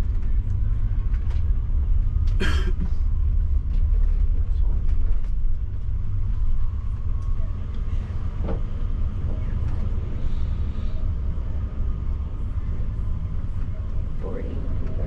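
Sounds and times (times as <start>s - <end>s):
coach engine rumbling: 0.0s - 15.0s.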